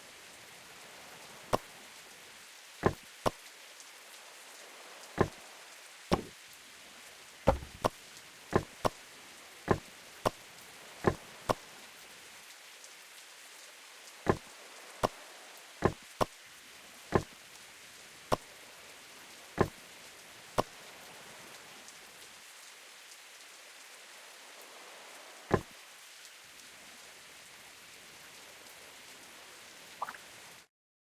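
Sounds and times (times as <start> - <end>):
steady rain hiss: 0.0 - 30.7.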